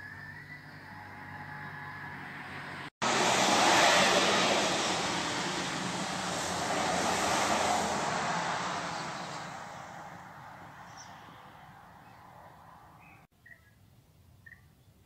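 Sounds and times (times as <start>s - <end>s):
vehicle passing tyre noise: 0.2s - 13.2s.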